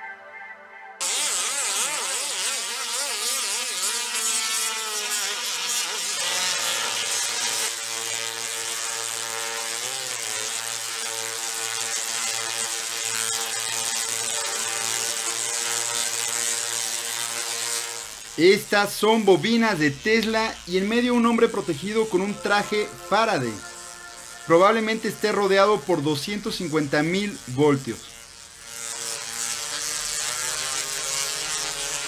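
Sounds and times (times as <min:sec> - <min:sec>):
pitched electric hum: 0:01.0 - 0:32.0
tesla coil crackling discharges: 0:01.0 - 0:32.0.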